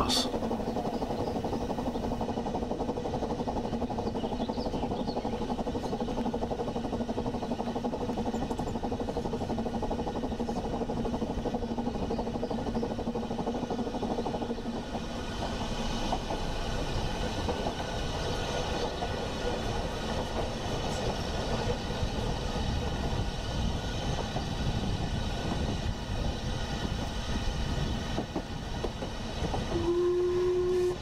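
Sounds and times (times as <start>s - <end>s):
train running: 0.0s - 31.0s.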